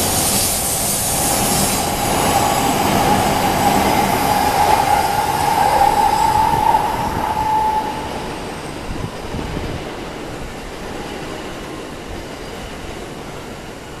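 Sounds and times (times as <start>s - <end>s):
train rushing rail noise: 0.0s - 14.0s.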